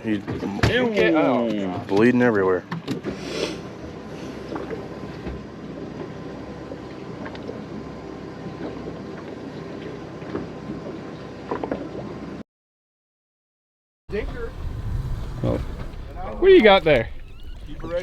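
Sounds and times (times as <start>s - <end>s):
boat motors rumbling: 1.5s - 12.4s, 14.1s - 18.0s.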